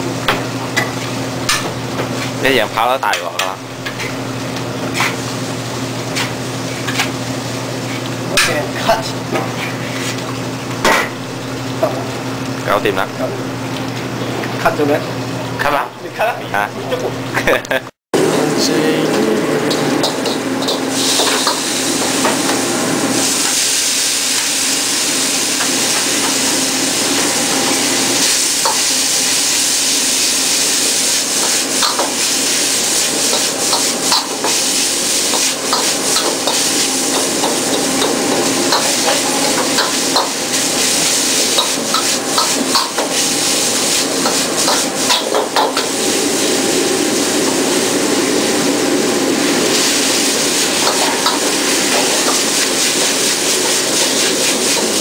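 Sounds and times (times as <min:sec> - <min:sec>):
food sizzling in a wok: 0:00.0 - 0:02.4, 0:03.2 - 0:12.5, 0:18.2 - 0:55.0.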